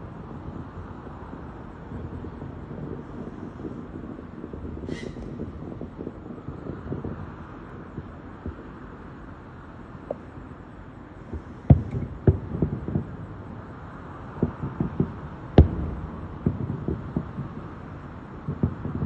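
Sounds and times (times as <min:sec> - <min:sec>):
fireworks exploding: 0:00.0 - 0:19.0.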